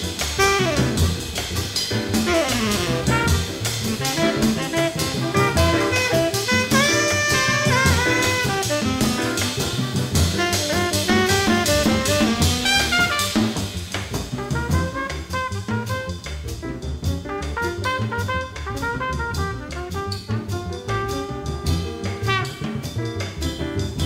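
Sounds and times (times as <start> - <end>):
bass: 0.0 - 24.0
drum kit: 0.0 - 24.0
horn playing fast runs: 0.3 - 16.4, 17.3 - 23.0.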